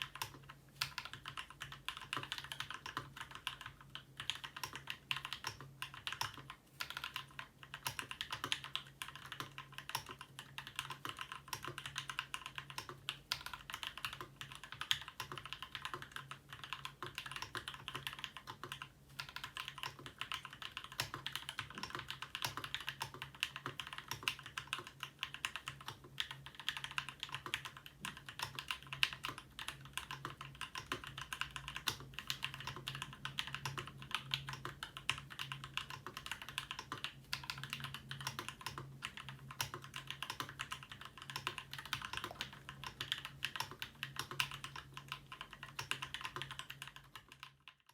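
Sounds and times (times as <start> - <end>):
fast mechanical keyboard typing: 0.0 - 47.9.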